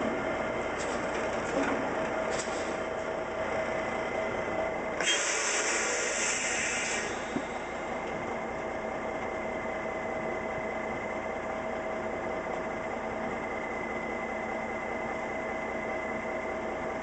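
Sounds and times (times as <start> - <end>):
constant whine: 0.0 - 17.0
diesel engine idling: 0.0 - 17.0.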